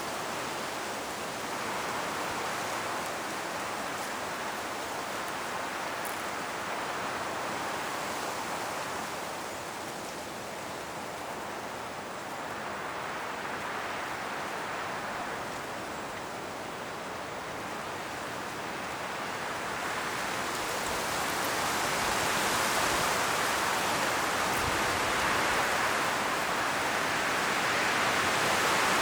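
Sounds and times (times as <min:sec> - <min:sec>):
wind rustling tree leaves: 0:00.0 - 0:29.0.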